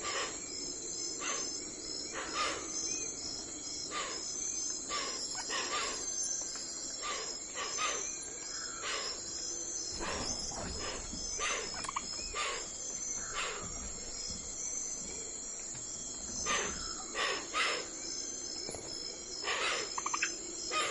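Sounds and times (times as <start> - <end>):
crickets trilling: 0.0 - 20.9.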